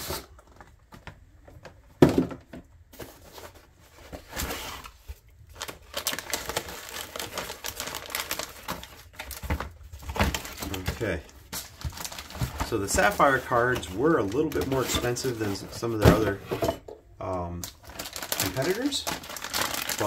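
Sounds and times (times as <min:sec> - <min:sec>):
cardboard and plastic rustling: 0:00.0 - 0:20.0.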